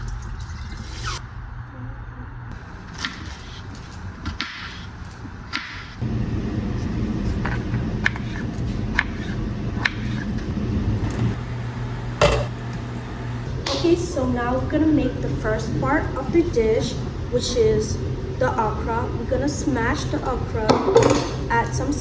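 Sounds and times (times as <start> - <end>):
steady low hum: 1.2 - 22.0.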